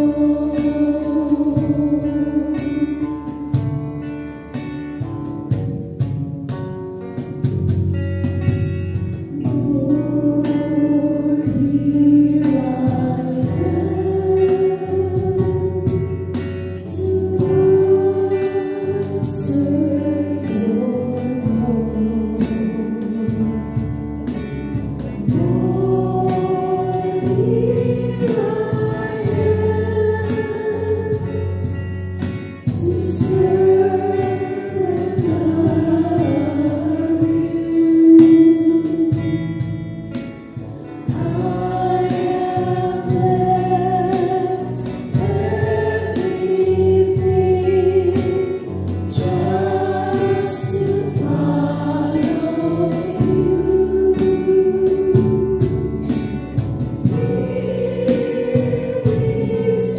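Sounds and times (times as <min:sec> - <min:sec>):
strummed acoustic guitar: 0:00.0 - 0:59.9
voices singing worship song: 0:00.0 - 0:59.9.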